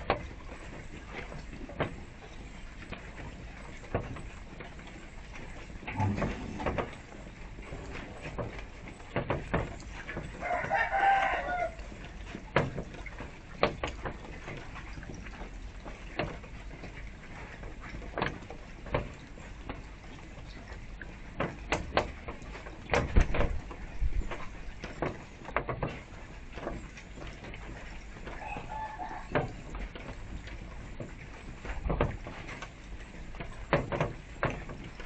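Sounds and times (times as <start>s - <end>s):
fountain trickling: 0.0s - 35.0s.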